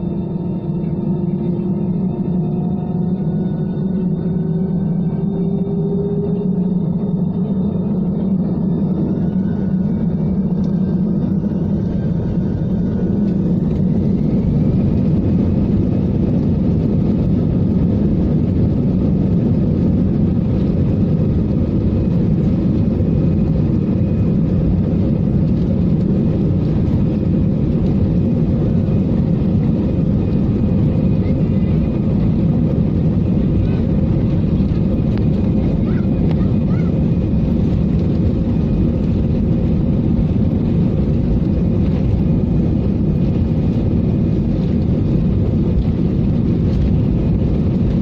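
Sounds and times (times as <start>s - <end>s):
jet engine whine: 0.0s - 48.0s
jet engines rumbling in cabin: 0.0s - 48.0s.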